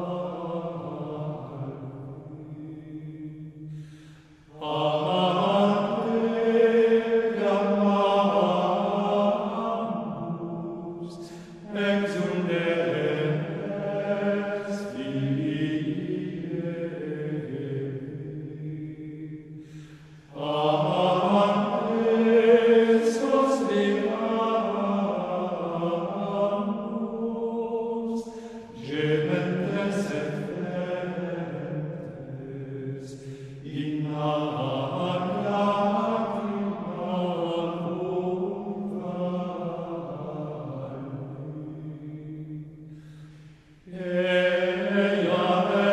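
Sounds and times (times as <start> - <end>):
slow solemn sung chant: 0.0 - 45.9.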